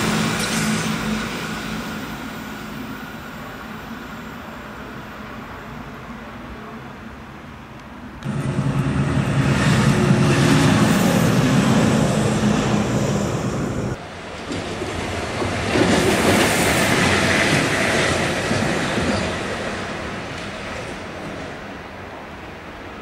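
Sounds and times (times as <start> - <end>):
electric locomotive passing: 0.0 - 23.0.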